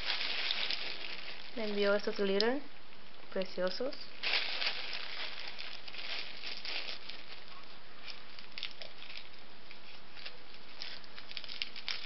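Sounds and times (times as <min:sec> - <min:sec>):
packets being handled: 0:00.0 - 0:02.5, 0:04.2 - 0:12.0
steady hiss: 0:00.0 - 0:12.0.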